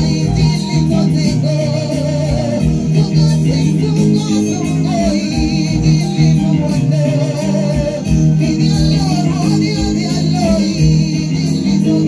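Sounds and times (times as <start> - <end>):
gospel worship music: 0.0 - 12.0
voices singing: 0.0 - 12.0.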